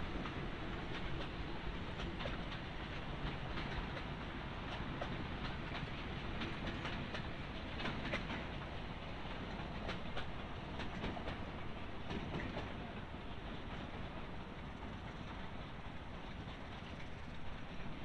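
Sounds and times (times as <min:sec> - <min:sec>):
train rumble: 0:00.0 - 0:18.0
train wheels clicking over rail joints: 0:00.0 - 0:18.0.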